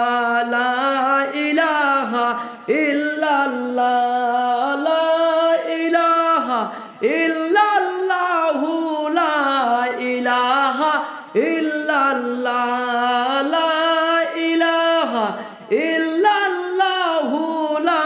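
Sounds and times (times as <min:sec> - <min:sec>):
man singing a cappella: 0:00.0 - 0:18.0.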